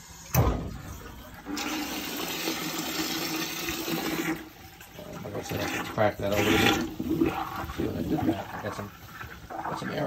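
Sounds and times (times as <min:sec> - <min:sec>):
water rushing from valve: 0:01.0 - 0:10.0.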